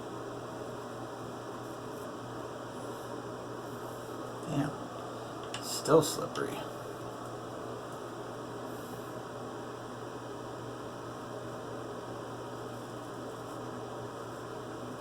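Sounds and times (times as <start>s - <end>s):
electrical hum with hiss: 0.0s - 15.0s.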